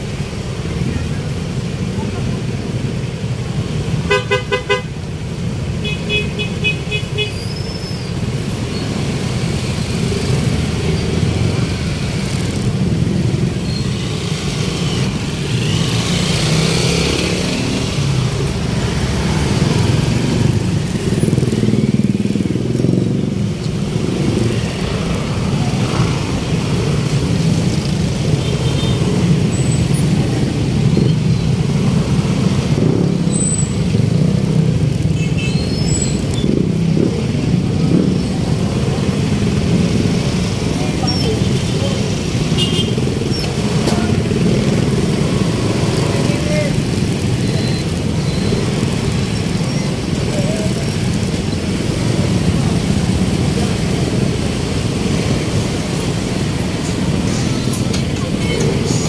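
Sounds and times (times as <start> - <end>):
vehicle engines rumbling: 0.0 - 59.0.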